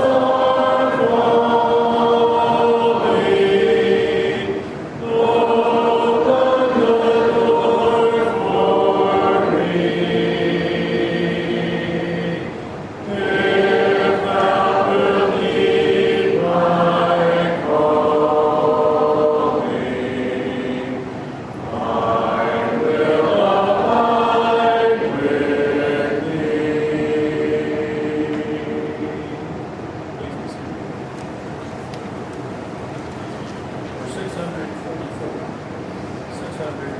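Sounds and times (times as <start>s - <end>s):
congregation singing a hymn: 0.0s - 30.3s.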